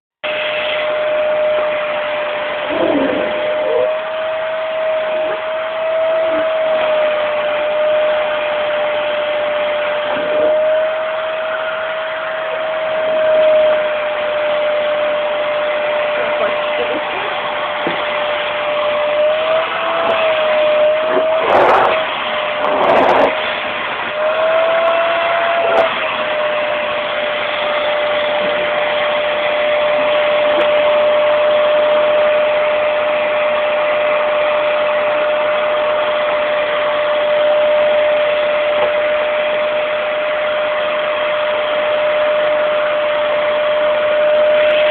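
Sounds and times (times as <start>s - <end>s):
vacuum cleaner running: 0.2s - 44.9s.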